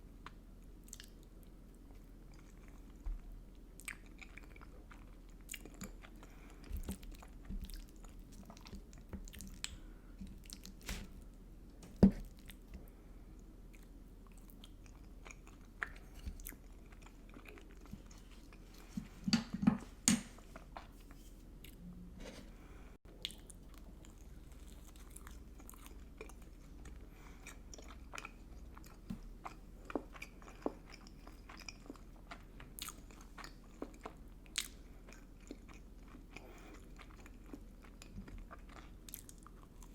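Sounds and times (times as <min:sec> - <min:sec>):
chewing and crunching: 0:00.2 - 0:11.0, 0:12.2 - 0:19.0, 0:23.1 - 0:39.9.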